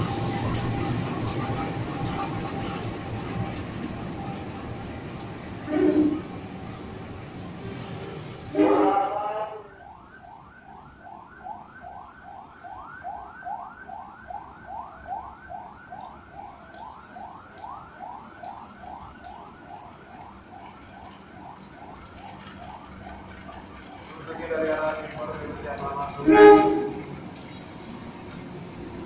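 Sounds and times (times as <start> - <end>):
diesel locomotive hum: 0.0 - 9.9, 14.0 - 29.0.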